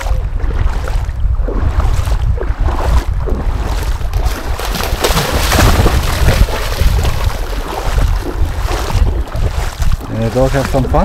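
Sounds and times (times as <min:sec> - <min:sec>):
dog splashing through water: 0:00.0 - 0:11.0
wind buffeting microphone: 0:00.0 - 0:11.0.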